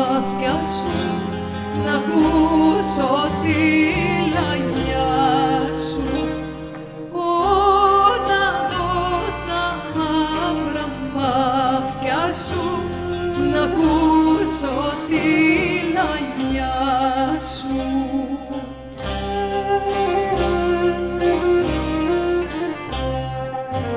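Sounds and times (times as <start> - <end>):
woman singing with vibrato: 0.0 - 23.1
bass: 0.0 - 23.9
lute: 0.0 - 23.9
viola: 0.0 - 23.9.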